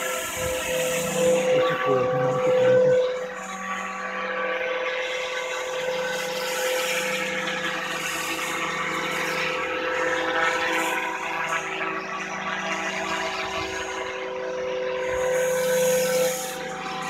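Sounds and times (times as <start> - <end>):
helicopter rotor noise: 0.0 - 17.0
model helicopter motor whine: 0.0 - 17.0.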